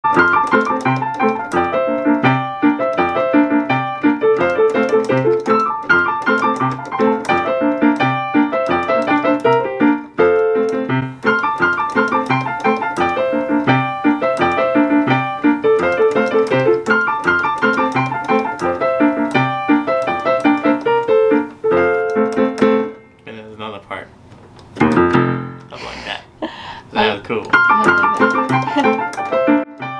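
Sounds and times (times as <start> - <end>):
digital piano playing: 0.0 - 24.0, 24.7 - 25.8, 27.0 - 29.9.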